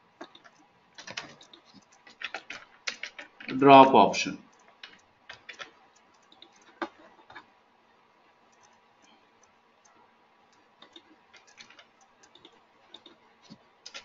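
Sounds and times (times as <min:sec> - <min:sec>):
mouse and keyboard clicks: 0:00.2 - 0:03.6, 0:04.5 - 0:07.5, 0:08.5 - 0:14.0.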